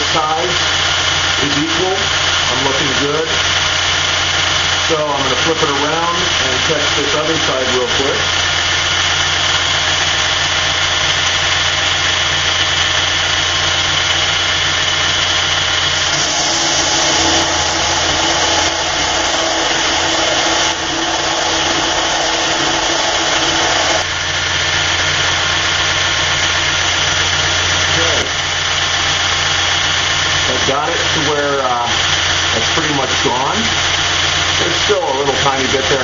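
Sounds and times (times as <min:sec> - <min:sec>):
belt grinder motor hum: 0:00.0 - 0:36.0
blade grinding hiss: 0:00.0 - 0:36.0.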